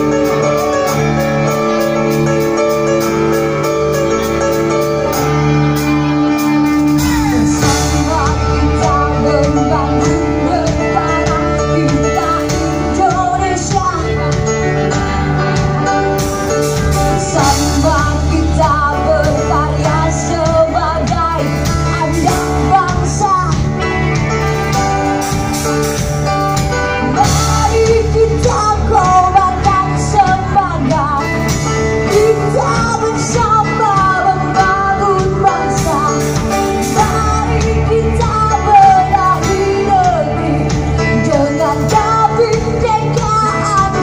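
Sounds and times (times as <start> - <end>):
woman singing: 0.0 - 26.0, 26.6 - 44.0
drum kit: 0.0 - 44.0
electric guitars: 0.0 - 44.0
keyboard chords: 0.0 - 44.0.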